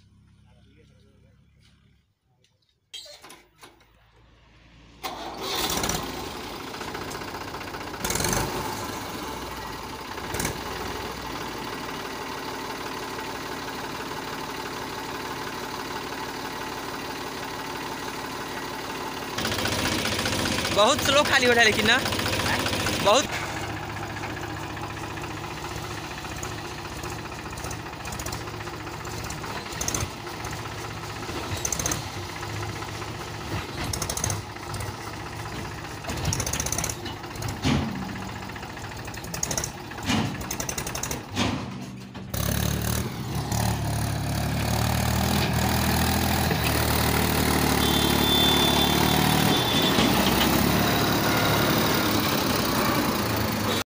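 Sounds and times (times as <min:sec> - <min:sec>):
tractor diesel engine running: 0:00.0 - 0:02.2, 0:03.2 - 0:53.9.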